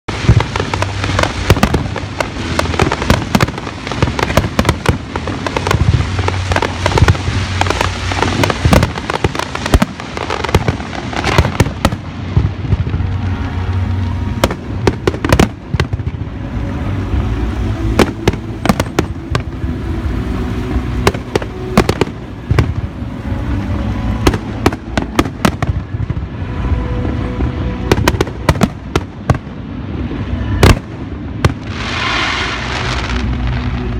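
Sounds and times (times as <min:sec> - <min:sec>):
fireworks bangs and booms: 0:00.1 - 0:33.9
rolling rumble: 0:00.1 - 0:33.9.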